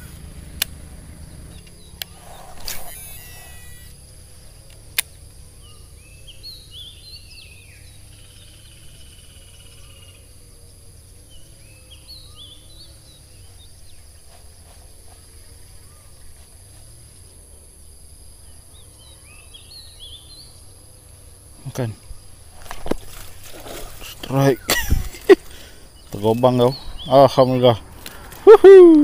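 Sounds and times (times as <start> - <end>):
birds chirping: 0.0 - 29.0
high insect drone: 0.0 - 29.0.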